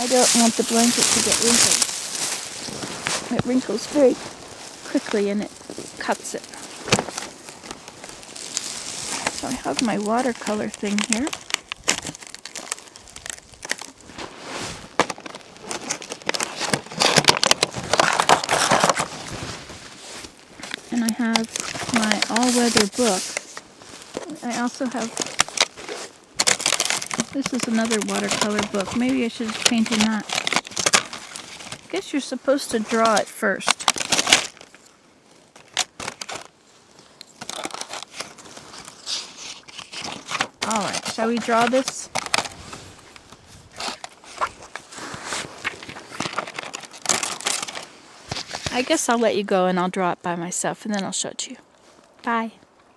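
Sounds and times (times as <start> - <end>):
paper rustling and clicking: 0.0 - 4.3, 4.9 - 14.3, 14.9 - 34.9, 35.5 - 36.6, 37.2 - 49.2
foil blanket crinkling: 0.0 - 49.3.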